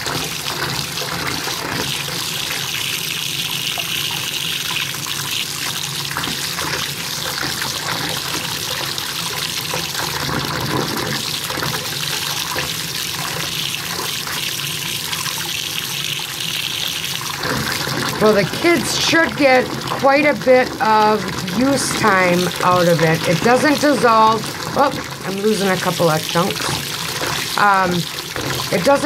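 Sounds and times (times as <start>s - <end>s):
tap water pouring into tub: 0.0s - 29.0s.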